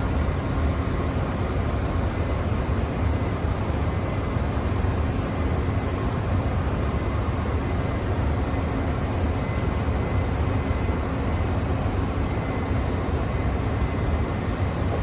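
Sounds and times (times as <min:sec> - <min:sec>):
cockpit airflow and engine rumble: 0:00.0 - 0:15.0.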